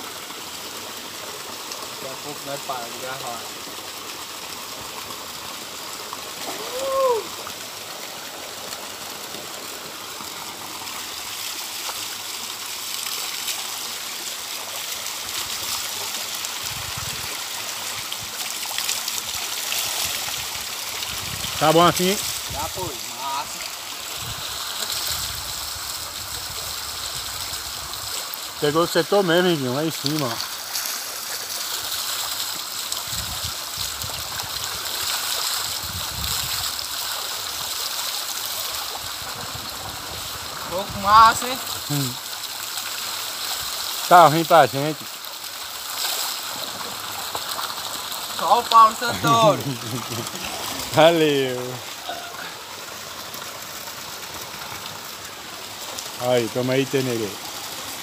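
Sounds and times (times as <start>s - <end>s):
spring water pouring into pool: 0.0s - 58.0s.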